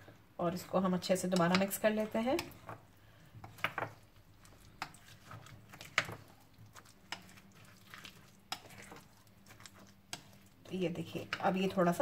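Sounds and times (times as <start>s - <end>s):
spoon stirring thick batter: 0.0s - 12.0s.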